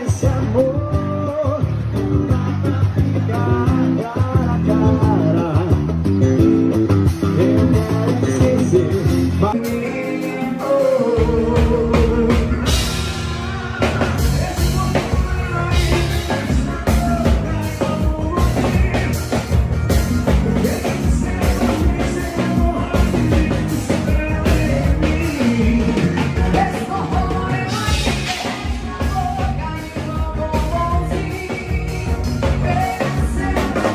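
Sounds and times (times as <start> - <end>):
bass guitar: 0.0 - 33.9
drum kit: 0.0 - 33.9
person singing: 0.0 - 33.9
rock music: 0.0 - 33.9.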